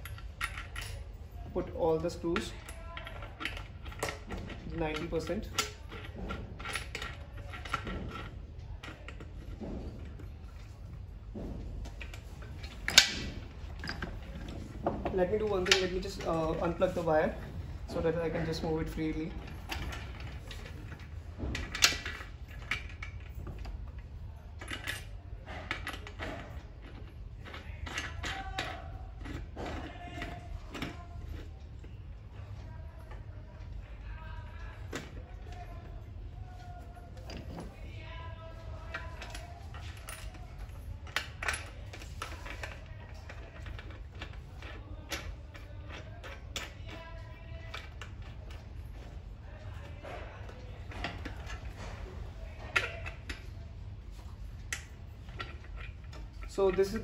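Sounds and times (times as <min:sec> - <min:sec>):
metal nuts clicking and clinking: 0:00.0 - 0:31.6, 0:37.2 - 0:57.0.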